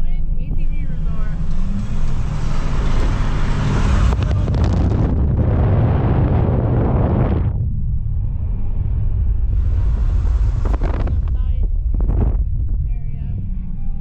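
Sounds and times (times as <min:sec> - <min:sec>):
road and wind noise: 0:00.0 - 0:14.0
truck driving rumble: 0:00.0 - 0:14.0.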